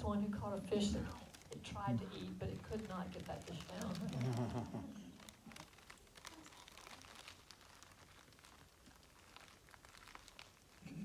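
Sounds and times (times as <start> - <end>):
faint clicks and crackles: 0.0 - 11.0.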